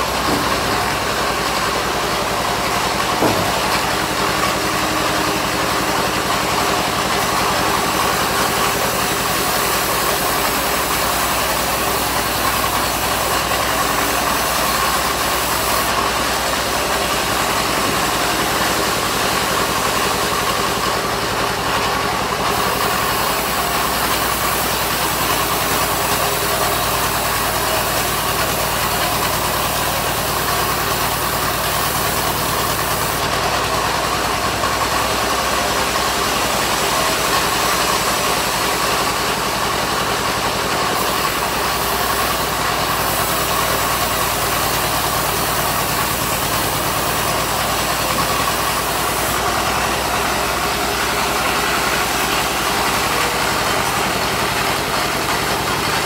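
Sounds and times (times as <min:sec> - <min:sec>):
band sawmill droning: 0:00.0 - 0:56.0.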